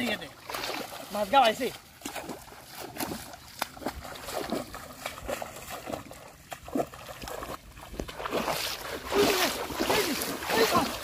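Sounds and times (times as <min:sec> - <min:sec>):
water splashing from wading steps: 0:00.0 - 0:11.0.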